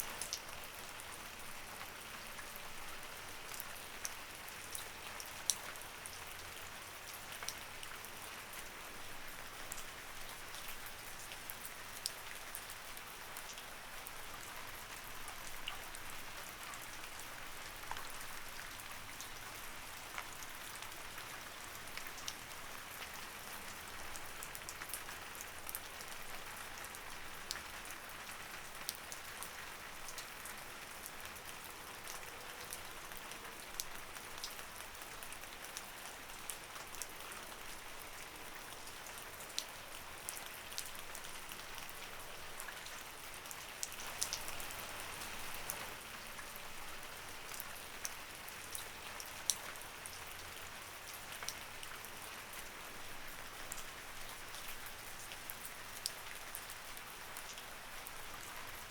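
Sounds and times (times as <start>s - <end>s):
light rain falling: 0.0s - 58.9s
raindrops ticking on a surface: 0.0s - 58.9s.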